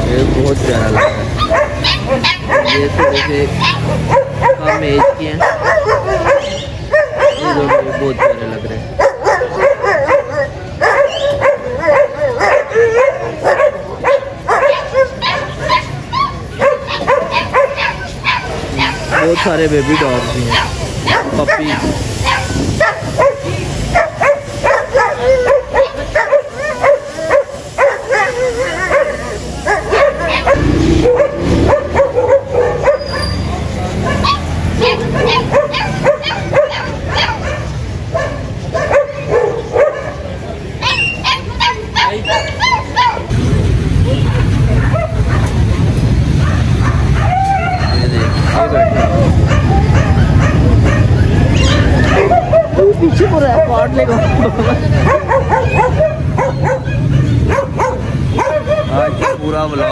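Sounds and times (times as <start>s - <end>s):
dog yipping barks: 0.8s - 43.3s, 44.2s - 59.9s.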